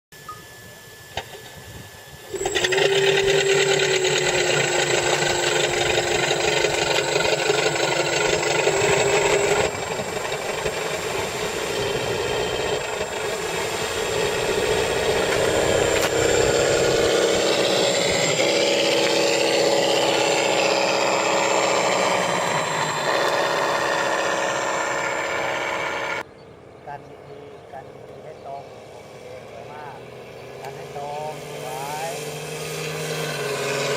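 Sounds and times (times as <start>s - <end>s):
simulated aircraft engine sound: 0.1s - 33.9s.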